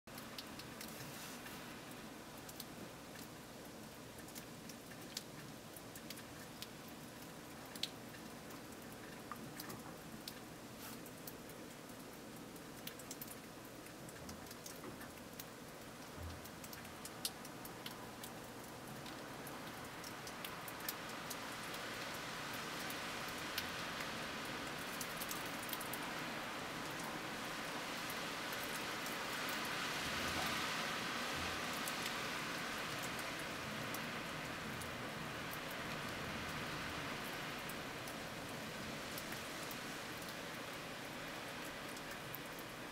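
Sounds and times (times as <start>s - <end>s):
blizzard wind hissing through trees: 0.1s - 13.9s, 15.4s - 42.9s
light ticks: 0.1s - 26.1s, 28.0s - 42.8s.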